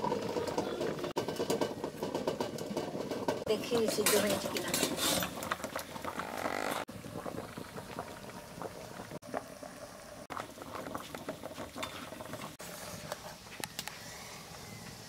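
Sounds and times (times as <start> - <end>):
water boiling with bubbling hiss: 0.0 - 15.0.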